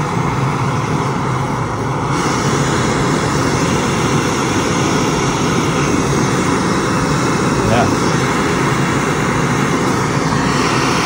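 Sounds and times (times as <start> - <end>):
camping stove burner hissing: 0.0 - 11.0.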